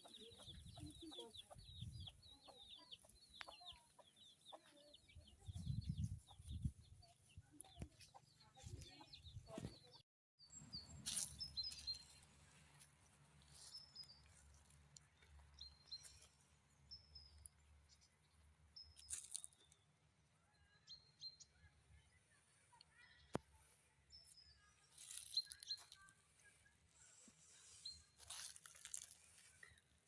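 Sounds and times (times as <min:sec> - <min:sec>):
faint birds chirping: 0:00.0 - 0:30.0.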